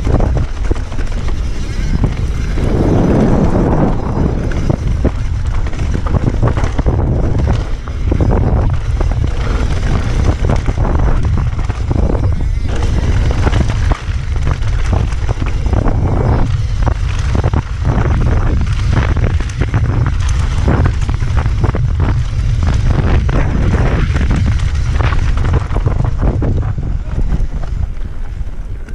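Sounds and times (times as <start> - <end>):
bike knocking and rattling: 0.0 - 28.9
wind rumble on microphone: 0.0 - 28.9.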